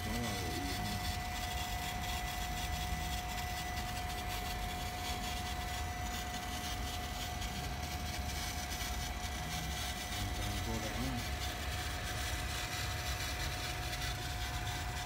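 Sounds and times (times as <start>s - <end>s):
water pump motor hum with whine: 0.0s - 15.0s.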